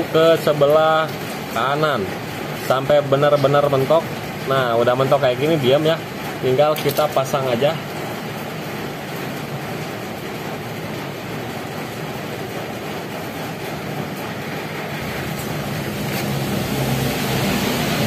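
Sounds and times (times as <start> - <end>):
machine rumbling: 0.0 - 18.0.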